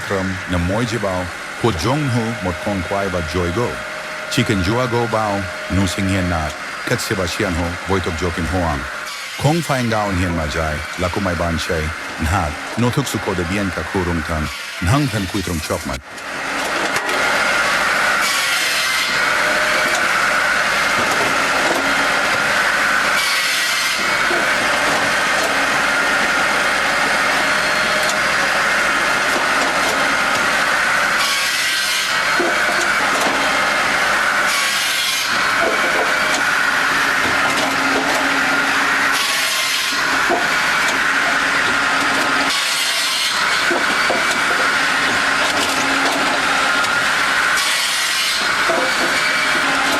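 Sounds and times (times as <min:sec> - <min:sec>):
saw cutting through logs: 0:00.0 - 0:49.9.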